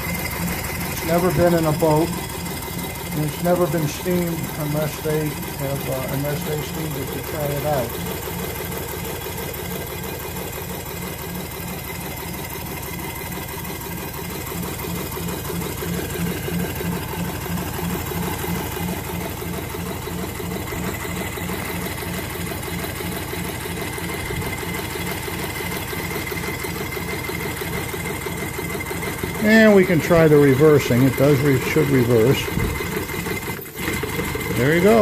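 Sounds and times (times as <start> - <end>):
model steam engine running: 0.0 - 35.0.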